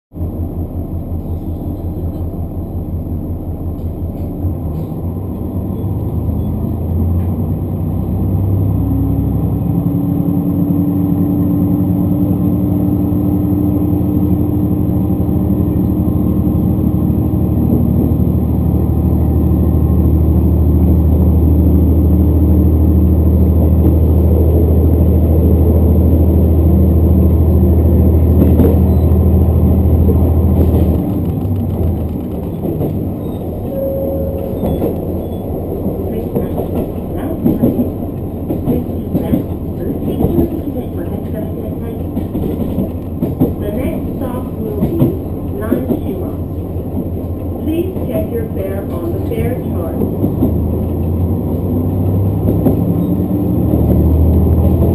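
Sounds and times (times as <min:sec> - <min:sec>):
diesel train engine: 0:00.1 - 0:54.9
wheels rumbling on track: 0:00.1 - 0:54.9.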